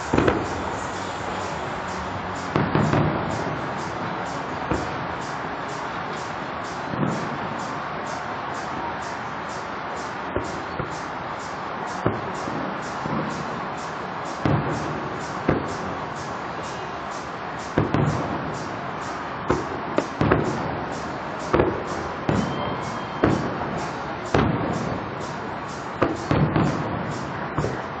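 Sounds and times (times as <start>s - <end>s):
distant firework bangs: 0.0s - 1.5s, 2.3s - 16.8s, 17.6s - 18.8s, 19.4s - 28.0s
steady background hiss: 0.0s - 28.0s.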